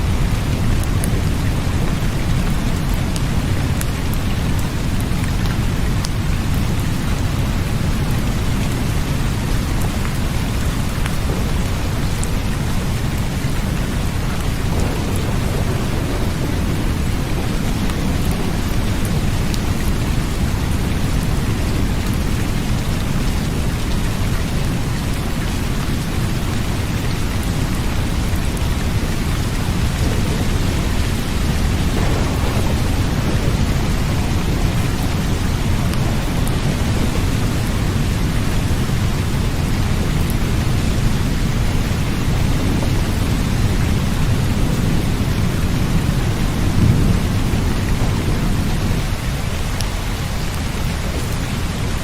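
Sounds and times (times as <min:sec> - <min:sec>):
low rumble: 0:00.0 - 0:23.5, 0:26.7 - 0:50.5
steady rain falling: 0:00.0 - 0:52.0.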